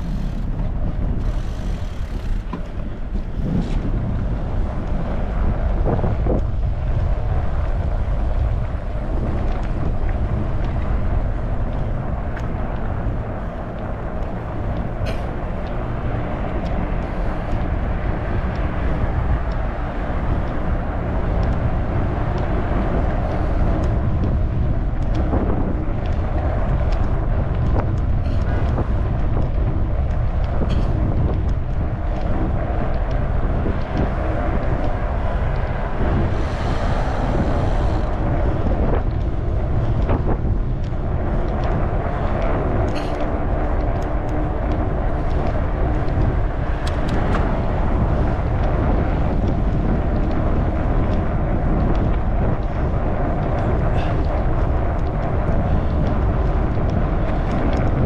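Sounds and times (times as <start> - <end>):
bike tyres rolling: 0.0 - 58.0
wind rushing on microphone: 0.0 - 58.0.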